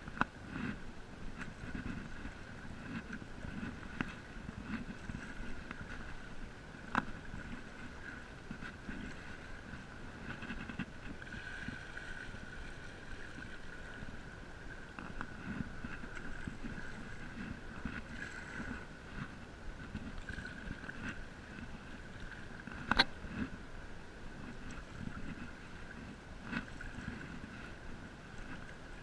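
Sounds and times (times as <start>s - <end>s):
paddle strokes through water: 0.0s - 29.0s.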